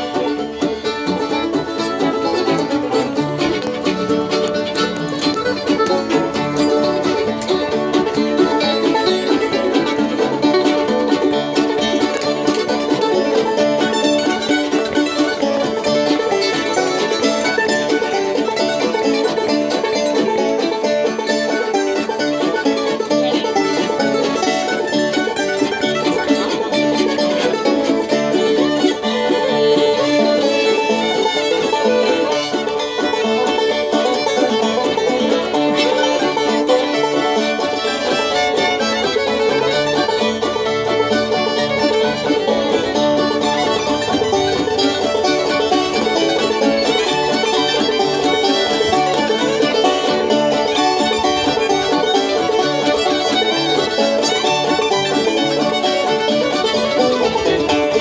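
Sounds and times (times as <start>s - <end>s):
bluegrass band playing: 0.0s - 58.0s.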